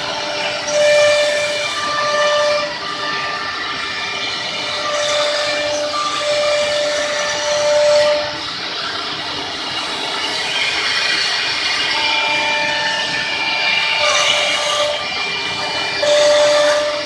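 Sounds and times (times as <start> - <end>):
router machine whines: 0.0 - 17.0.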